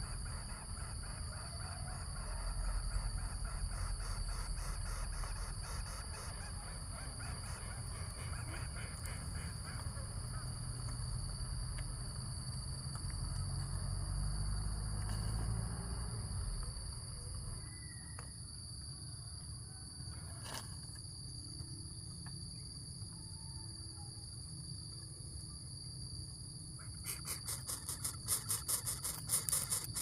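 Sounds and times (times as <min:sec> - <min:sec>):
insects trilling: 0:00.0 - 0:30.0
pulsing insect chirp: 0:00.0 - 0:30.0.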